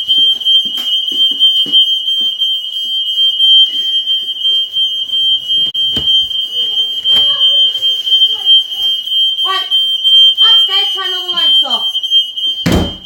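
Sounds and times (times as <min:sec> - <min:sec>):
smoke alarm high-pitched tone: 0:00.0 - 0:13.0.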